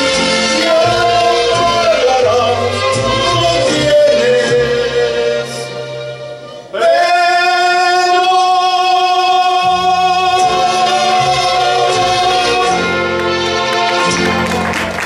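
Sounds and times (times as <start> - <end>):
man singing into a microphone: 0.0 - 5.8, 6.7 - 13.0
backing music: 0.0 - 15.0.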